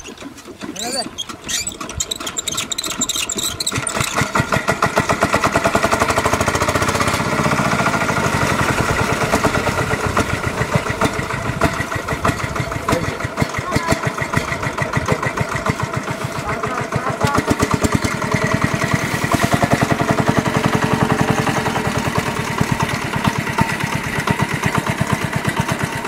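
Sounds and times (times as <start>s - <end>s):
small engine chugging: 0.0s - 26.0s.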